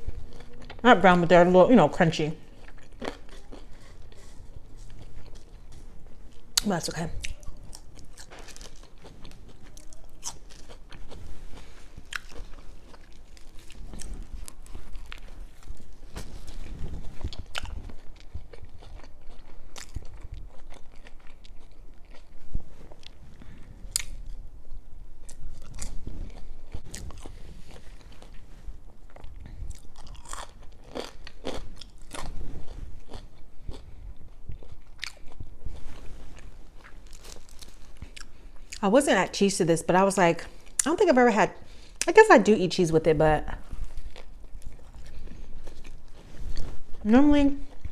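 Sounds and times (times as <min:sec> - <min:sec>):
chewing crunchy fries: 0:00.0 - 0:01.4, 0:02.2 - 0:38.8, 0:43.5 - 0:47.9.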